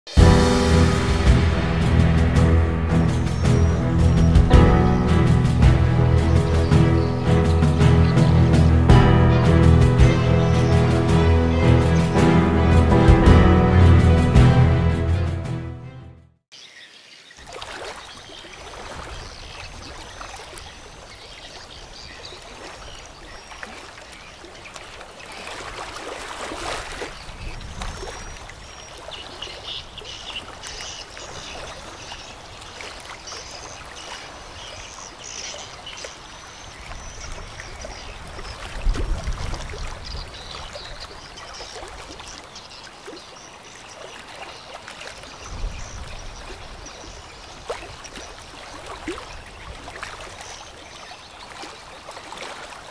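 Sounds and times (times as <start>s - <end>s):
rushing water: 0.1s - 15.6s, 16.6s - 52.9s.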